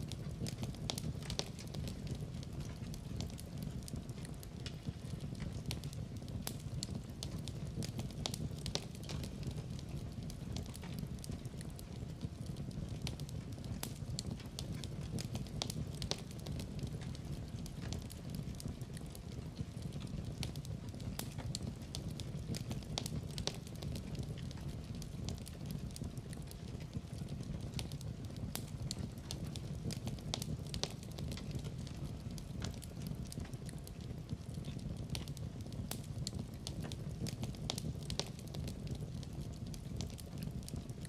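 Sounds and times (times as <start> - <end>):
fire crackling and popping: 0.0 - 41.0
fire rumbling: 0.0 - 41.0.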